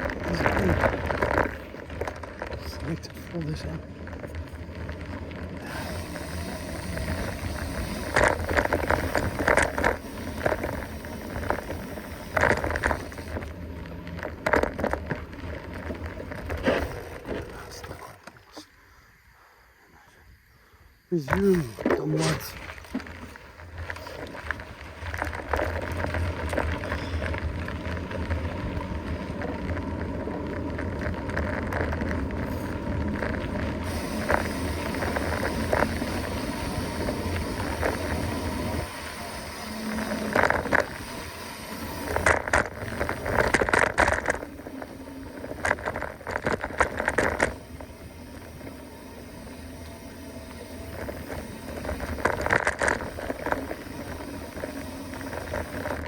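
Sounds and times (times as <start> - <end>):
bike rattling over rough ground: 0.0 - 18.8, 21.1 - 56.0
wind and rolling tyres: 0.0 - 56.0.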